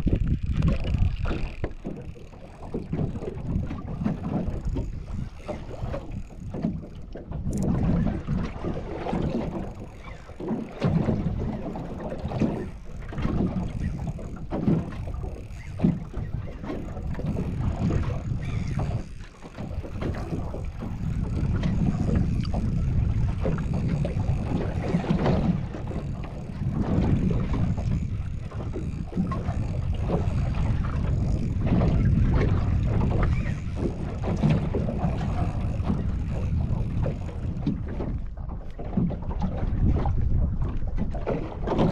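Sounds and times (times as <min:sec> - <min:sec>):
water rushing against hull: 0:00.0 - 0:41.9
wind buffeting microphone: 0:00.0 - 0:41.9.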